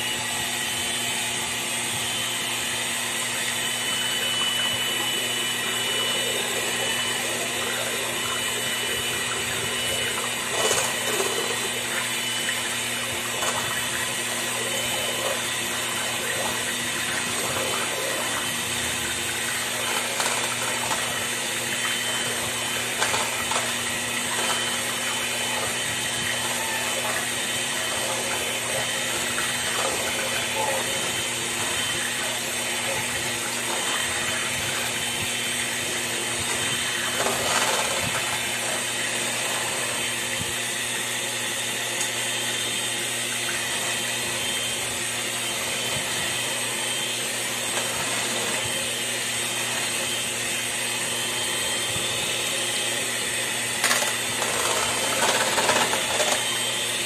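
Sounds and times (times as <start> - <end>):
electric hand mixer whirring: 0.0 - 57.0.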